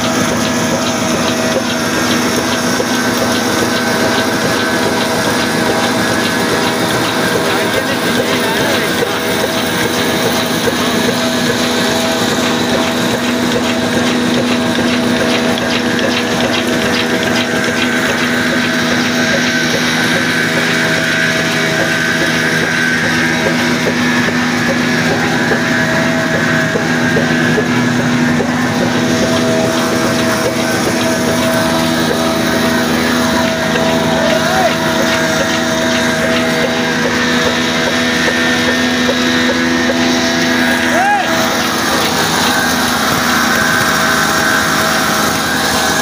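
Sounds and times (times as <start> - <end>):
diesel engine driving mill grinder: 0.0 - 46.0.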